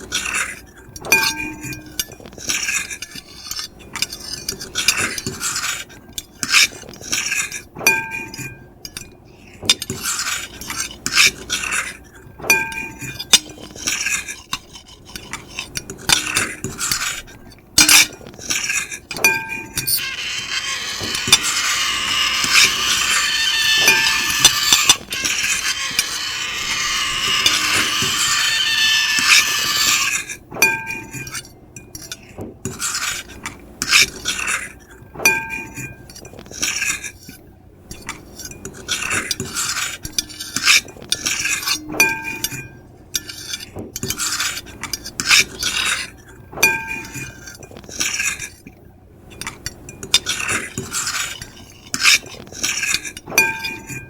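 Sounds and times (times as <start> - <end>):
fork and knife scraping plate: 0.0 - 54.0.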